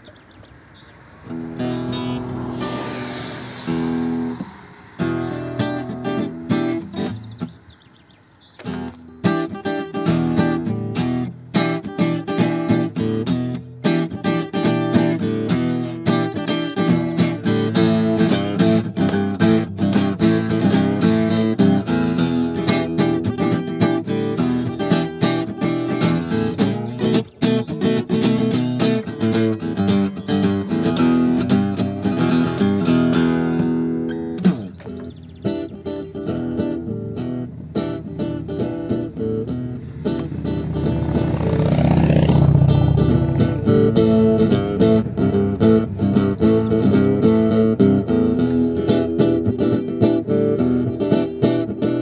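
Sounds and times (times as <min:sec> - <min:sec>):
guitar strumming: 0:01.1 - 0:52.0.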